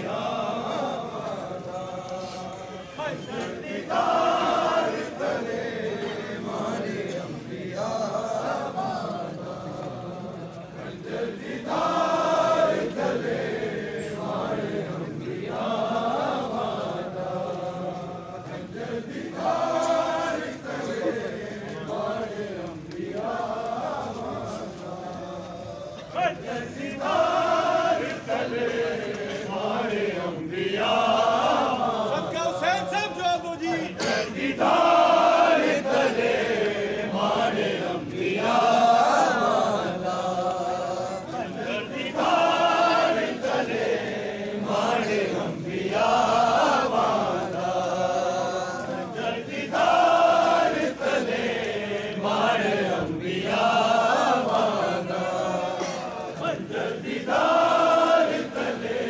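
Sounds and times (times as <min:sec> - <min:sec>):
crowd of men chanting: 0:00.0 - 0:59.0.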